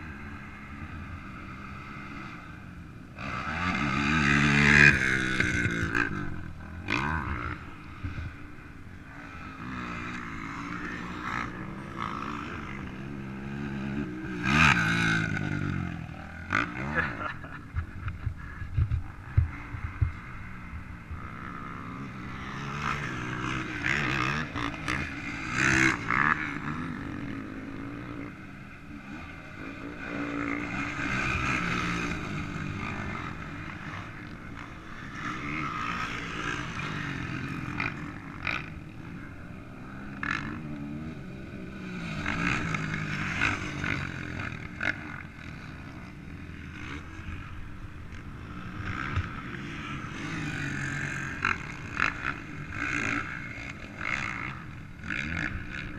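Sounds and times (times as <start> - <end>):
motocross engines revving: 0.0 - 55.9.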